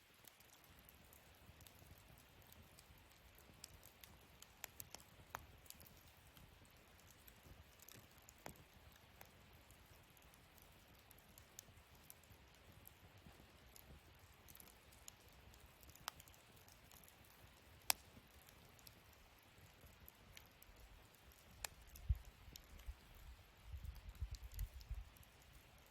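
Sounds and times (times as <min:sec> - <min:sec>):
low steady hiss: 0:00.0 - 0:25.9
wood fire crackling: 0:00.0 - 0:25.9.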